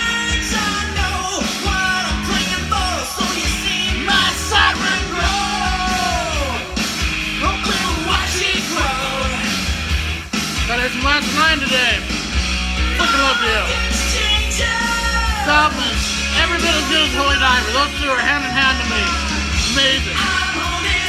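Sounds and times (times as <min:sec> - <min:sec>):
rock song with sung vocal: 0:00.0 - 0:21.0.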